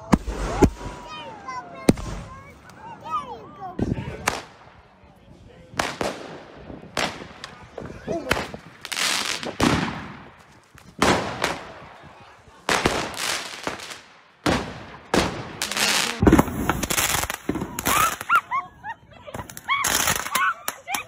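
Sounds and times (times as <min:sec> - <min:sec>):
fireworks bangs with crackling hiss: 0:00.0 - 0:01.2, 0:01.8 - 0:02.6, 0:03.8 - 0:04.8, 0:05.7 - 0:18.5, 0:19.3 - 0:20.9.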